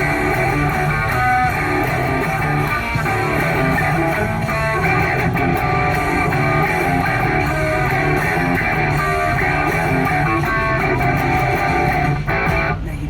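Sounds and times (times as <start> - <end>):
electric guitar playing rock: 0.0 - 13.0.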